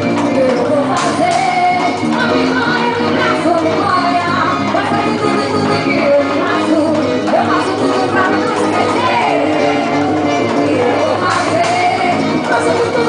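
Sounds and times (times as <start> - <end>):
loud folk dance music with singing: 0.0 - 13.0.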